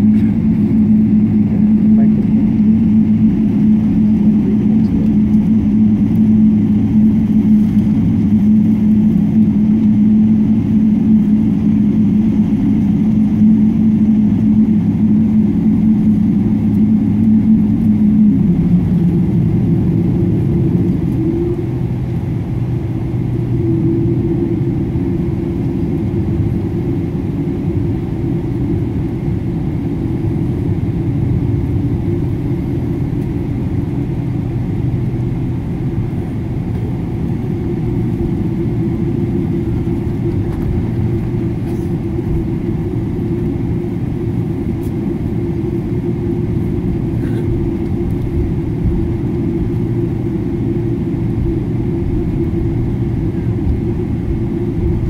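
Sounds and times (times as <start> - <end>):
higher engine tone: 0.0 - 55.0
jet engines idling in cabin: 0.0 - 55.0.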